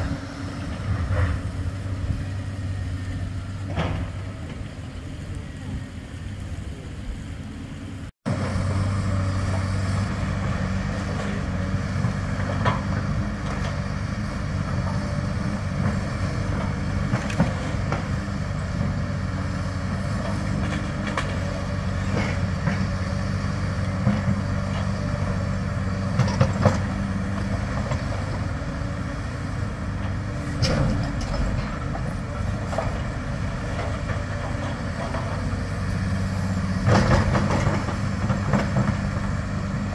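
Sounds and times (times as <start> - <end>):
excavator diesel engines: 0.0 - 39.9
street sound: 0.0 - 39.9.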